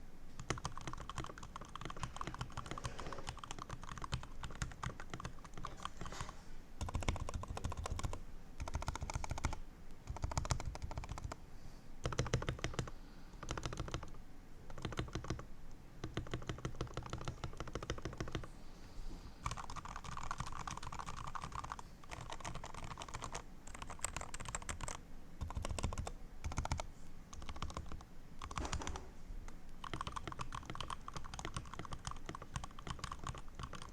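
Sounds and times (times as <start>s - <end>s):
mechanical keyboard typing: 0.4s - 11.4s, 12.0s - 15.4s, 16.0s - 18.5s, 19.4s - 29.1s, 29.8s - 33.9s.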